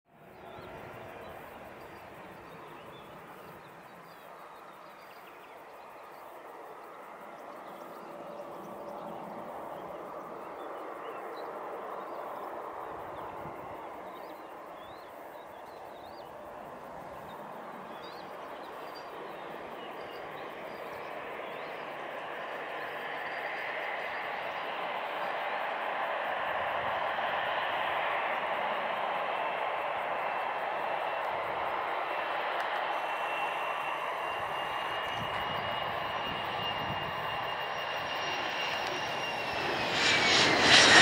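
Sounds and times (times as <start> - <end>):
jet engines rushing: 5.8 - 41.0
high engine whine: 6.9 - 41.0.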